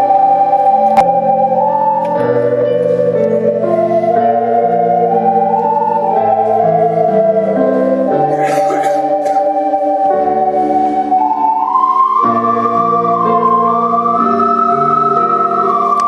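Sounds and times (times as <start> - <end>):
ocarina melody: 0.0 - 16.0
sustained keyboard chords: 0.0 - 16.0.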